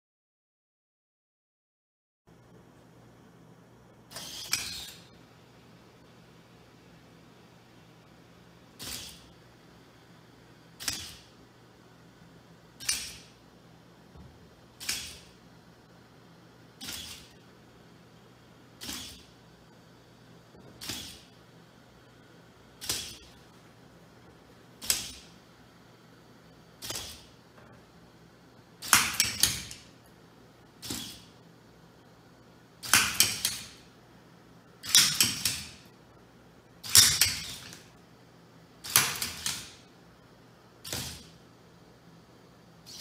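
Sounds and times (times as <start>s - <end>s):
steady low hum: 2.3s - 43.0s.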